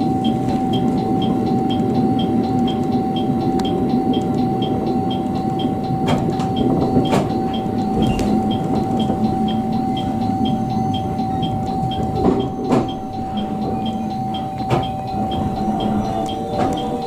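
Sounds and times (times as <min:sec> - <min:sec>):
faint high beep: 0:00.0 - 0:17.0
train rumble and hum: 0:00.0 - 0:17.0.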